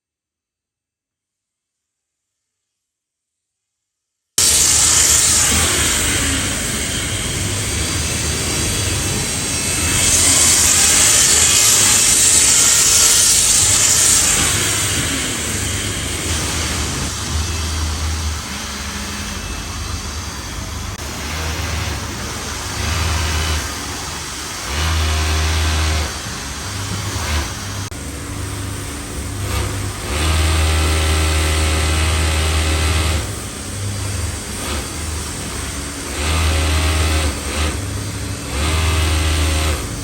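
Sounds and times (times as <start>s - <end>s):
factory machine motor humming: 4.4s - 40.0s
noisy factory background: 4.4s - 40.0s.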